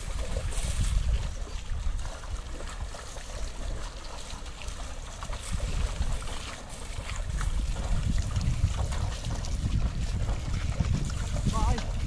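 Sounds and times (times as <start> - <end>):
water splashing: 0.0 - 12.0
wind rumble on microphone: 0.0 - 12.0.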